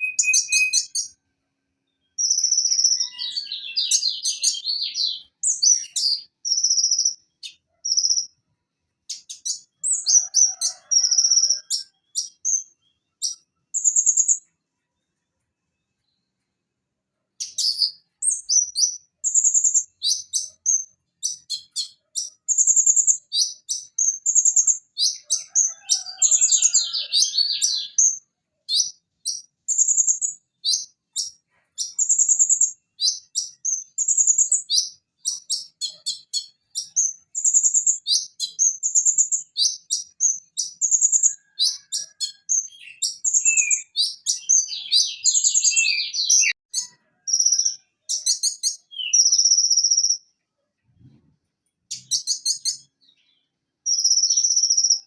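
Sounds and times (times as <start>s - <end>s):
sunbird singing: 0.0s - 1.2s, 1.9s - 8.3s, 9.1s - 14.5s, 17.4s - 50.2s.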